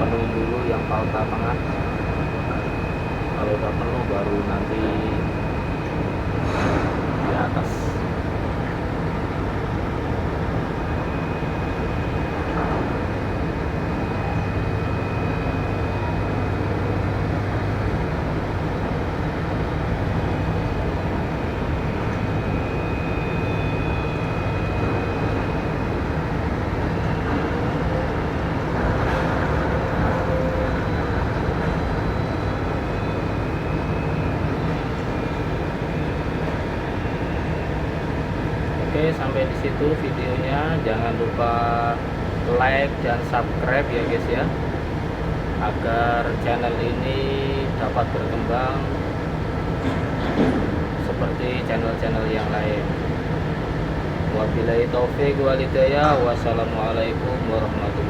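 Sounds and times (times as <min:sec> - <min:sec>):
faint high whine: 0:00.0 - 0:08.8, 0:09.4 - 0:44.6, 0:45.6 - 0:50.0, 0:51.1 - 0:58.0
container crane machinery drone: 0:00.0 - 0:58.0.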